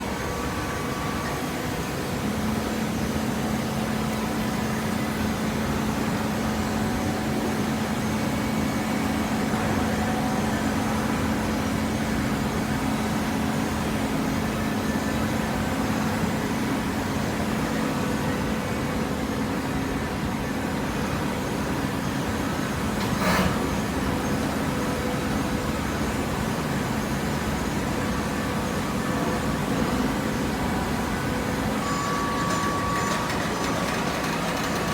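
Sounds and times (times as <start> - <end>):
baling machine humming: 0.0 - 34.9.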